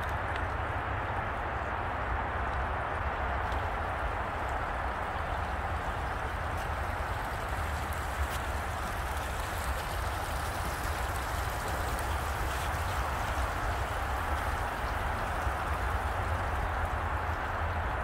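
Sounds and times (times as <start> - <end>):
water splashing over rocks: 0.0 - 18.0.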